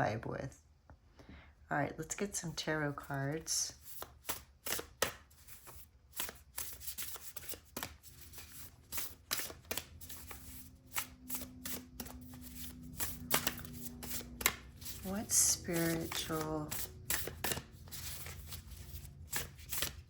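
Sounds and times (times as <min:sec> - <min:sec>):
cards being shuffled: 0:03.0 - 0:20.0.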